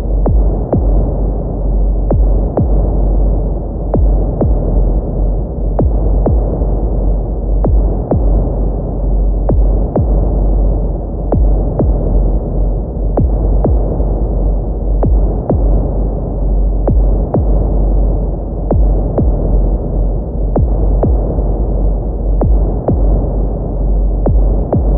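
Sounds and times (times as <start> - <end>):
heartbeat: 0.0 - 24.9
steady low drone: 0.0 - 24.9.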